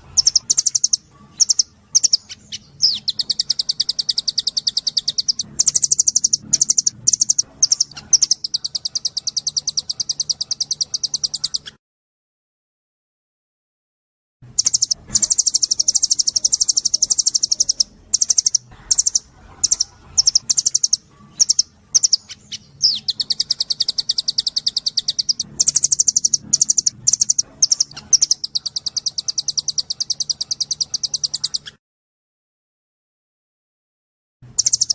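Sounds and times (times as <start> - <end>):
songbird singing high trill: 0.0 - 11.7, 14.6 - 31.7, 34.6 - 34.9.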